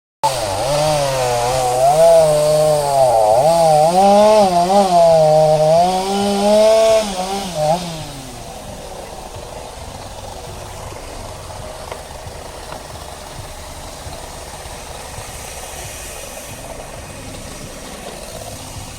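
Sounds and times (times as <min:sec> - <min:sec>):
engine revving and idling: 0:00.2 - 0:18.9.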